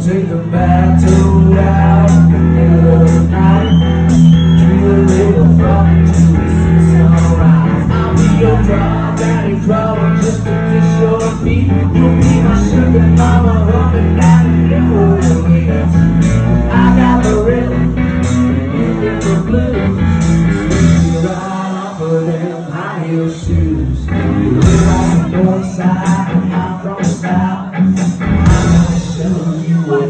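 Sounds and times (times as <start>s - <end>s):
bass guitar: 0.0s - 30.0s
electric guitars: 0.0s - 30.0s
male lead vocal: 0.0s - 30.0s
steady drum beat: 0.7s - 21.5s, 23.5s - 29.8s.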